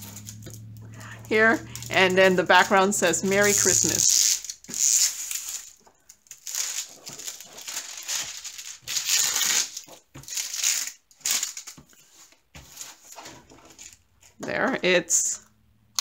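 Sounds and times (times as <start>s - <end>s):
hands rubbing plastic film: 0.0s - 14.0s
plastic film crinkling: 0.0s - 14.1s.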